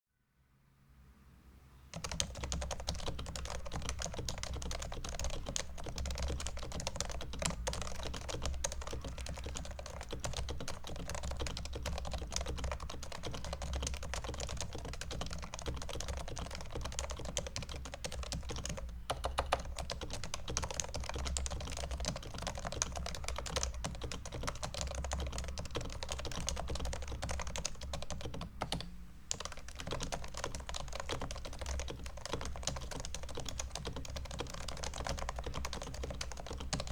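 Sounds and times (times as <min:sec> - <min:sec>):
keyboard typing: 0:01.9 - 0:36.9.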